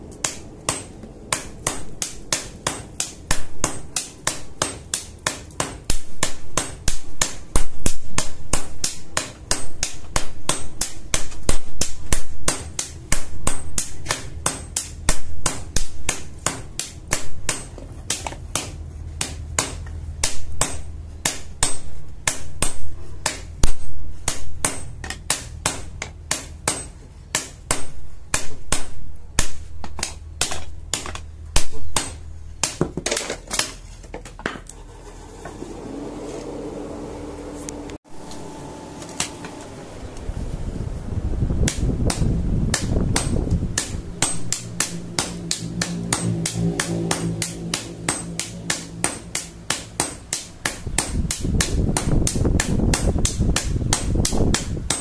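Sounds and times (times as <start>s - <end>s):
low steady hum: 0.0s - 55.0s
hammer striking steel: 0.2s - 33.8s, 41.7s - 55.0s.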